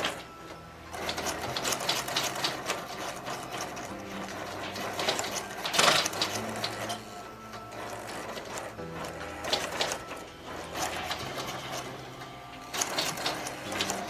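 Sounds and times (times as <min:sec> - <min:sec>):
toy motor clicking whir: 0:00.0 - 0:14.0.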